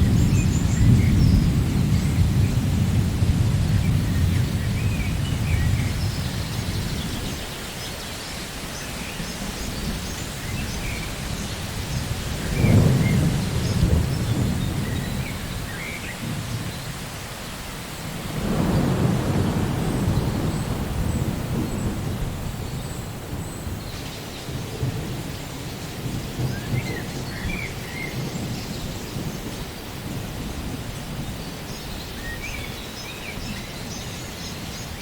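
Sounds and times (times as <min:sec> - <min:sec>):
rolling thunder rumbling: 0:00.0 - 0:07.9, 0:08.7 - 0:17.2, 0:17.8 - 0:32.6
steady rain falling: 0:00.0 - 0:35.0.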